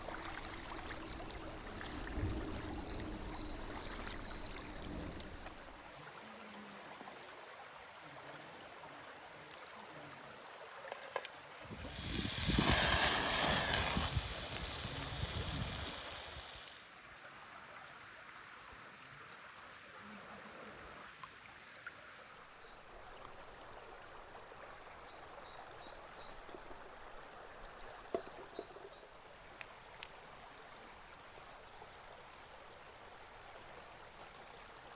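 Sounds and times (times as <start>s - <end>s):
stream running water: 0.0s - 34.9s.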